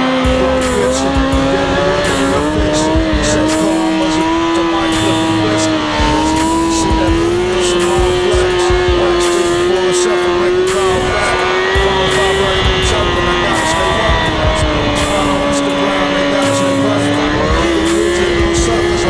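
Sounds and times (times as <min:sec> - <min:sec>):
motorcycle engine at high revs: 0:00.0 - 0:19.0.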